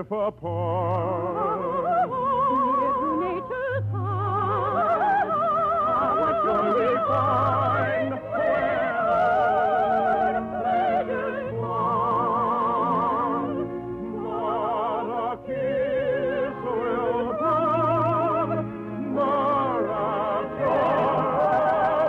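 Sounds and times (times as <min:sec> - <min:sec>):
operatic singing: 0:00.0 - 0:22.0
orchestral accompaniment: 0:00.7 - 0:22.0.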